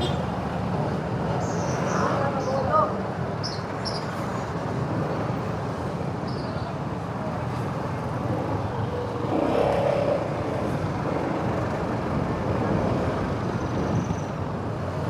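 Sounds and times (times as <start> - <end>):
motorcycle engine and road noise: 0.0 - 15.0
other vehicles in traffic: 0.0 - 15.0.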